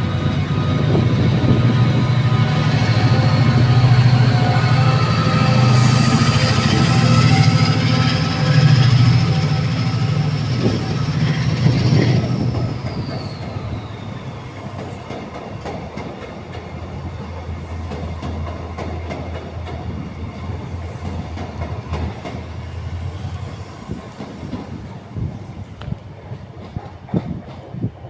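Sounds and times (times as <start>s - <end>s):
diesel locomotive engine: 0.0s - 28.0s.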